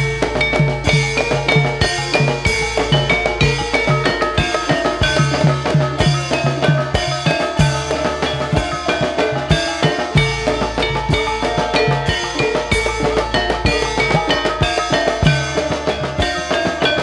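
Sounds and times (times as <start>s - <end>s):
gongs: 0.0s - 17.0s
hand drums beating: 0.0s - 17.0s
ringing pitched percussion: 0.0s - 17.0s.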